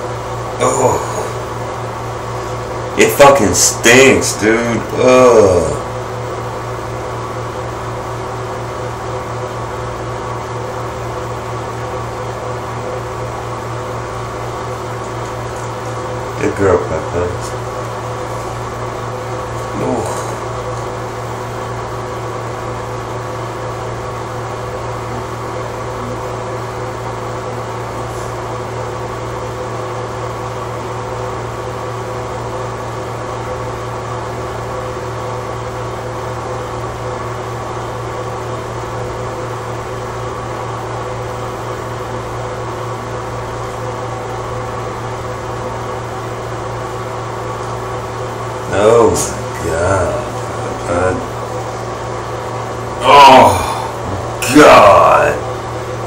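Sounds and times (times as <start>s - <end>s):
appliance humming: 0.0s - 56.0s.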